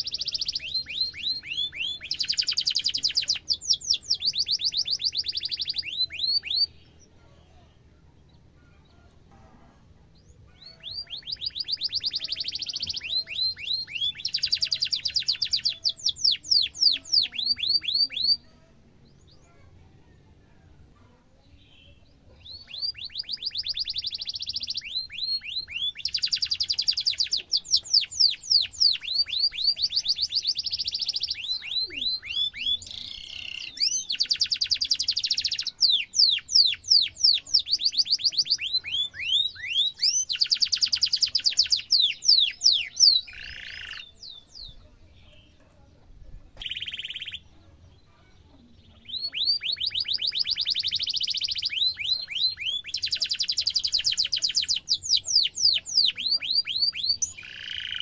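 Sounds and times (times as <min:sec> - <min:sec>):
canary singing: 0:00.0 - 0:07.1, 0:10.1 - 0:19.4, 0:21.5 - 0:45.6, 0:46.6 - 0:47.6, 0:48.6 - 0:58.0.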